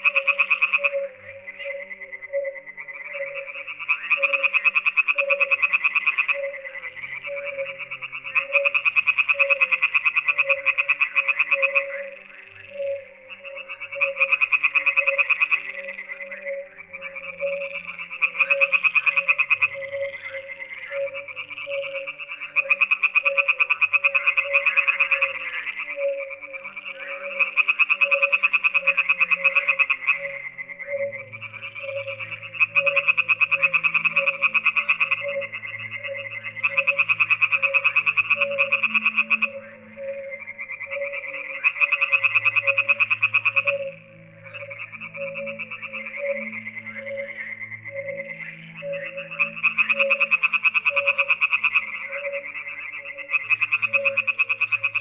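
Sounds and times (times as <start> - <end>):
frogs calling in rattling pulses: 0.0 - 55.0.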